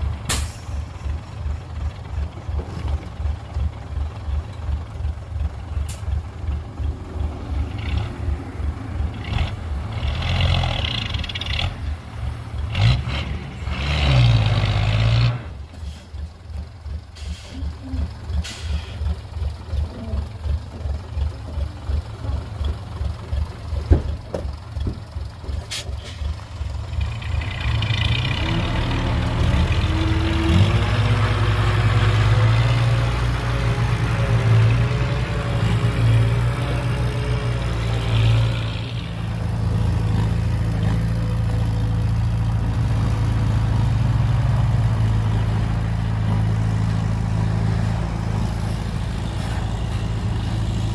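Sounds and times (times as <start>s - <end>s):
heavy diesel engine chugging: 0.0s - 9.8s, 15.6s - 50.9s.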